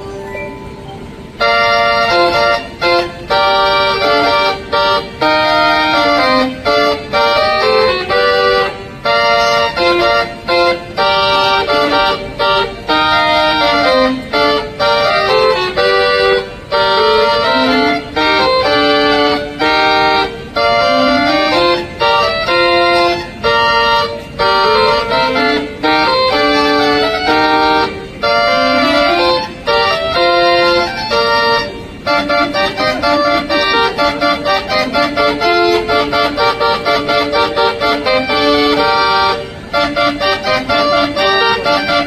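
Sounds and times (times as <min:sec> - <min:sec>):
mechanical organ playing chords: 0:00.0 - 0:42.0.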